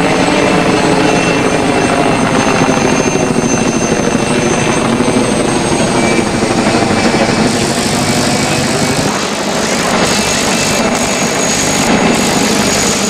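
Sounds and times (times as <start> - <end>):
helicopter rotor chopping: 0.0 - 13.0.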